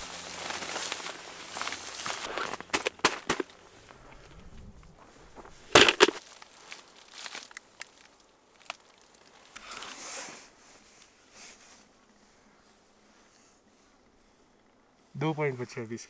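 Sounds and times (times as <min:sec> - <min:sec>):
crunching rustle in snow: 0:00.0 - 0:15.9.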